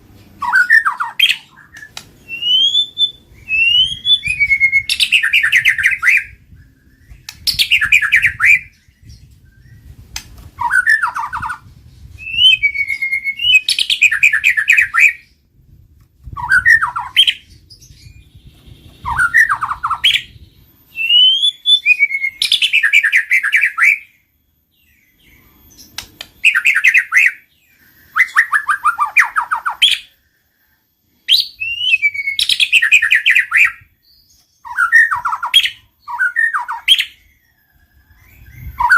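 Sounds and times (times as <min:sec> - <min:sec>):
songbird whistling and trilling: 0:00.3 - 0:38.9.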